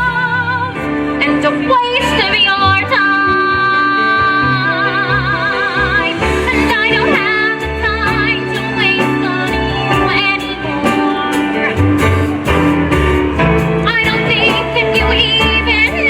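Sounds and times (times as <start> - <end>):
woman singing a ballad: 0.0 - 11.8, 13.8 - 16.0
instrumental accompaniment: 0.0 - 16.0.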